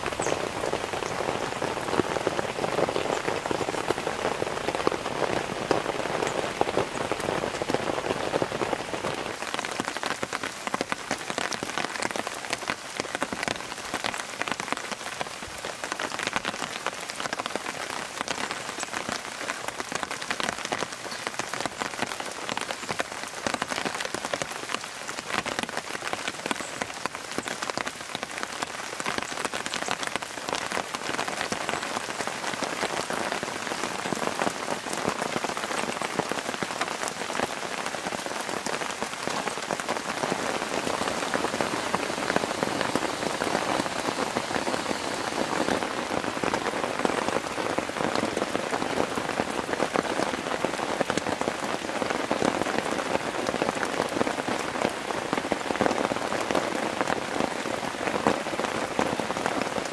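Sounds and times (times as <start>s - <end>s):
rain pattering on tent: 0.0s - 59.9s.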